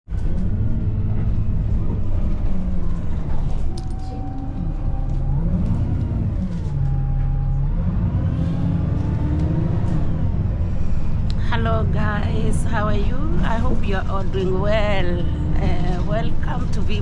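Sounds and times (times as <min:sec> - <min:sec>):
road rumble: 0:00.1 - 0:17.0
vehicle engine revving: 0:00.1 - 0:17.0.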